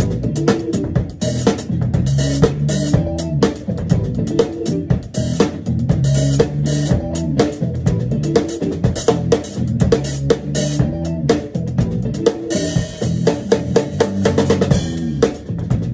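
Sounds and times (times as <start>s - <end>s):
backing track with bass guitar: 0.0s - 15.9s
drum kit funk groove: 0.0s - 15.9s.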